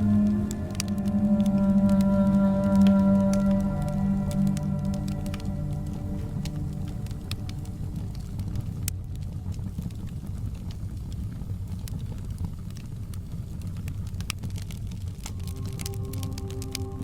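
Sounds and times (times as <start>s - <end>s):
burning wood rumble: 0.0s - 17.0s
fireplace crackling: 0.0s - 17.0s.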